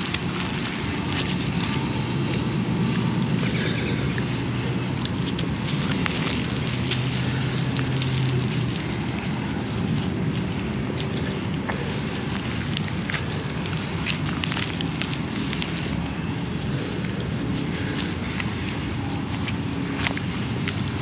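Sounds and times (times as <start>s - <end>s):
crackles and clicks of wet mud: 0.0s - 21.0s
low steady hum: 0.0s - 21.0s.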